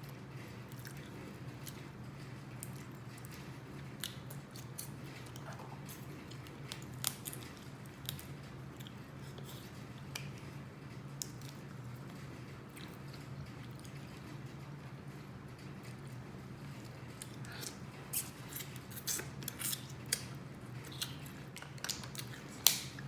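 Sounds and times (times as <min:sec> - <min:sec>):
wet chewing and smacking: 0:00.7 - 0:02.0, 0:02.6 - 0:14.4, 0:15.8 - 0:23.0.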